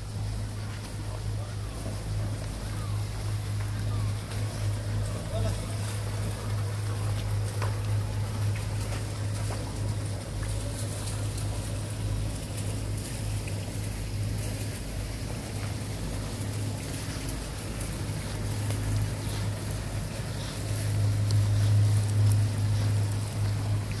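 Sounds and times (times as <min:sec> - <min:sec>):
boat machinery humming: 0:00.0 - 0:24.0
wind and water hiss: 0:00.0 - 0:24.0.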